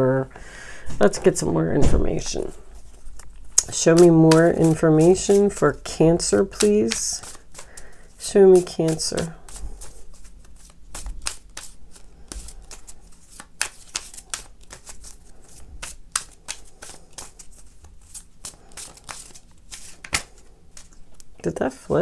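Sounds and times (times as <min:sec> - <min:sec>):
cards being shuffled: 0:02.2 - 0:21.3.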